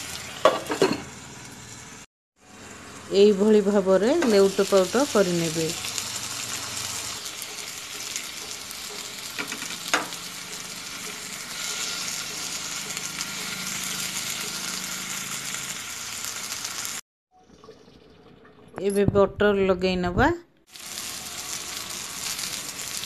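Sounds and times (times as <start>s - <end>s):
chicken sizzling in hot oil: 0.0s - 17.0s, 20.7s - 23.0s.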